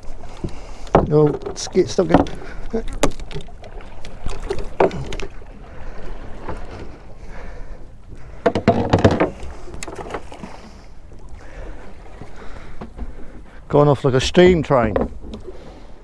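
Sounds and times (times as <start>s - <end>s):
water: 0.0s - 16.0s
wind: 0.0s - 16.0s.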